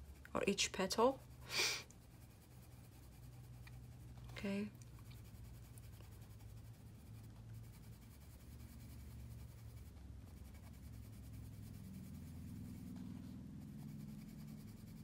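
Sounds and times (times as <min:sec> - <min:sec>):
low room hum: 0:00.0 - 0:15.0
pencil scratching on paper: 0:00.0 - 0:15.0.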